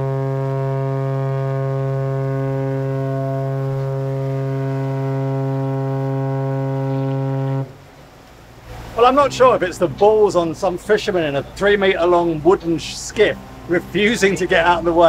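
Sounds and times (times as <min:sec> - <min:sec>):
deep ship's horn blast: 0:00.0 - 0:08.0, 0:08.7 - 0:15.0.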